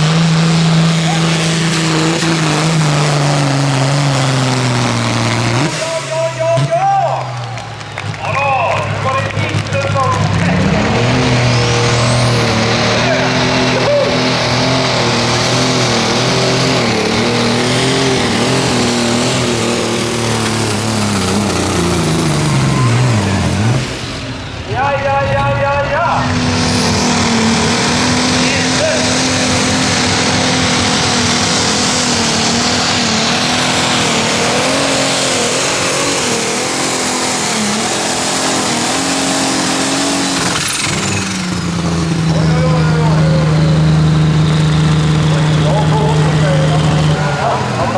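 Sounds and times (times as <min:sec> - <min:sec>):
tractor engine running hard: 0:00.0 - 0:47.9.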